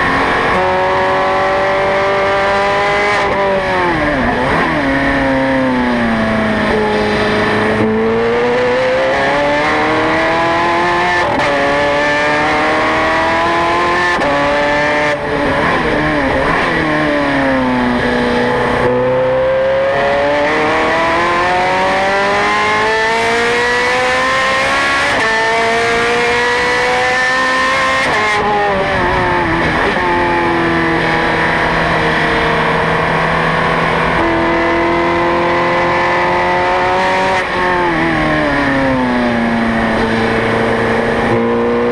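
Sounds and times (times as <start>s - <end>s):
race car engine accelerating: 0.0s - 41.9s.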